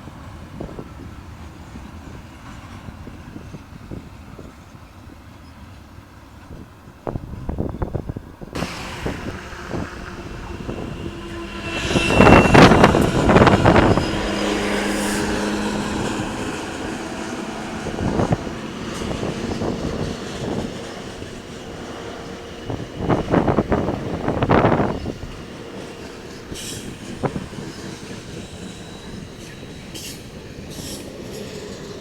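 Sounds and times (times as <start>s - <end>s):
train rumbling on rails: 0.0s - 32.0s
train wheel clatter: 0.5s - 32.0s.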